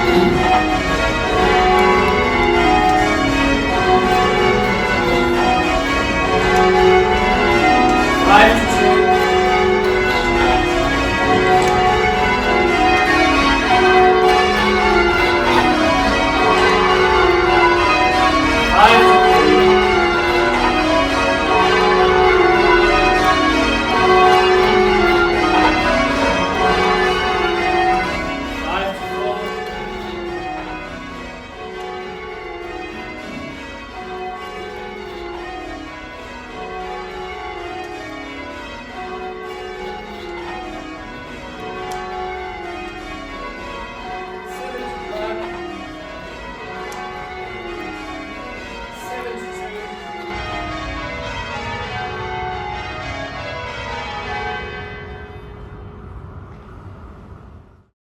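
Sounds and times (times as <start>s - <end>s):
church bells change ringing: 0.0s - 57.9s.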